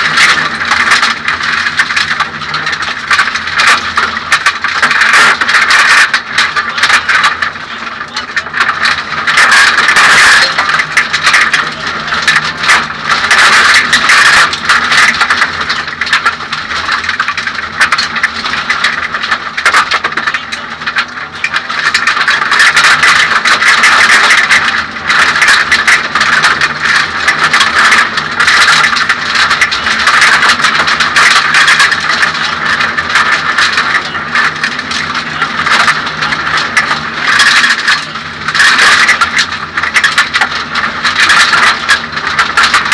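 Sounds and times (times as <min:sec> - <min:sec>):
gravel and tyre noise: 0:00.0 - 0:42.9
rally car engine running hard: 0:00.0 - 0:42.9.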